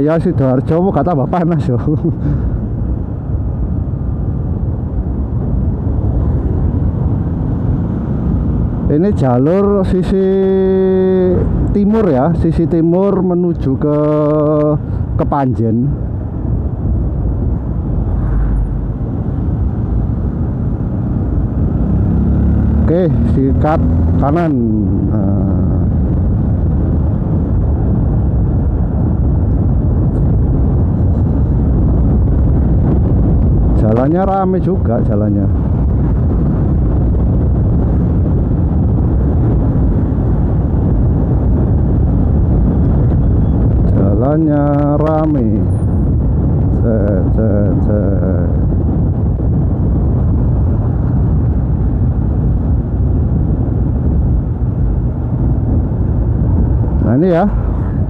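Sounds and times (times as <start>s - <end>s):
road noise: 0.0s - 58.0s
motorcycle engine rumble: 0.8s - 12.8s, 15.9s - 58.0s.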